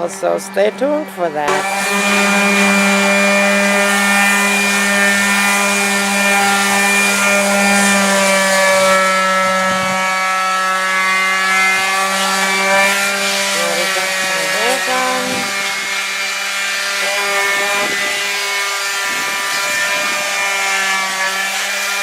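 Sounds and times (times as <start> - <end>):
power sander running on wood: 0.0 - 22.0.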